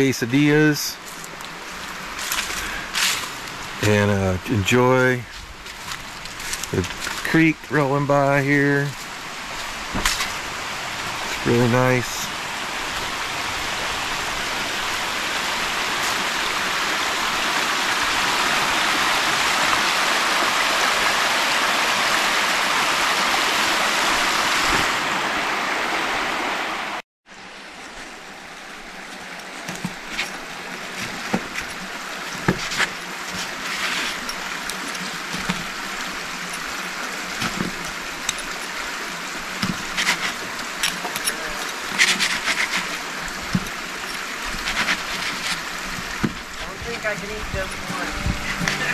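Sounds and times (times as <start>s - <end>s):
creek water running over rocks: 0.0s - 48.9s.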